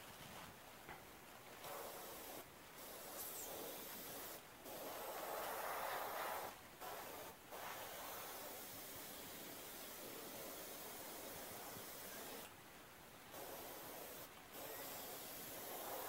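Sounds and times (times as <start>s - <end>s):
airbrush hissing: 1.6s - 12.5s, 13.3s - 16.0s.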